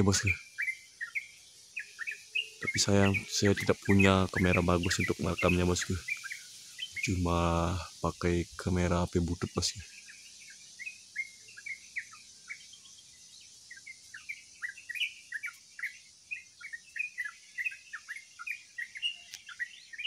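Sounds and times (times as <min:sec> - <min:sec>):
faint high hiss: 0:00.0 - 0:20.0
songbird singing: 0:00.0 - 0:20.0.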